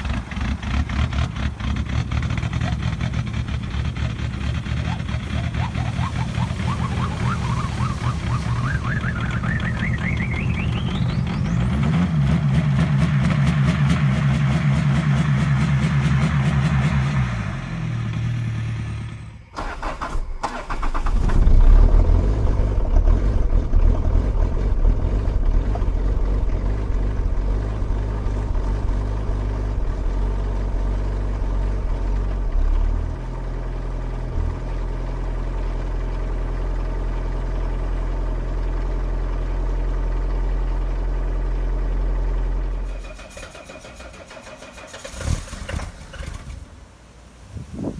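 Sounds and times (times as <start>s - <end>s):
diesel engine cranking and idling: 0.0s - 47.3s
diesel car engine whining: 0.0s - 47.9s.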